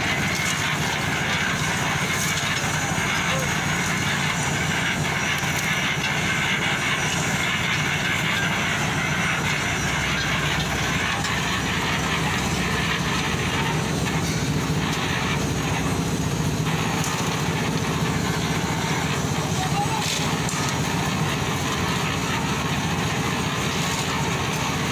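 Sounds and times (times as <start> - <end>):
concrete mixer engine running: 0.0 - 24.9
mix tumbling in drum: 0.0 - 24.9.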